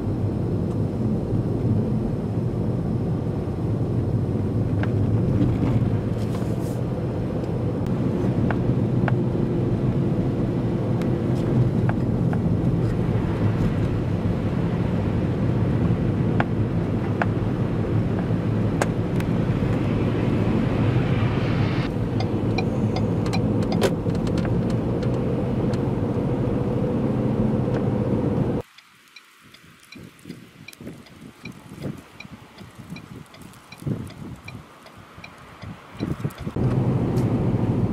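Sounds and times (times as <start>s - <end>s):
car engine drone: 0.0s - 28.7s, 34.4s - 37.9s.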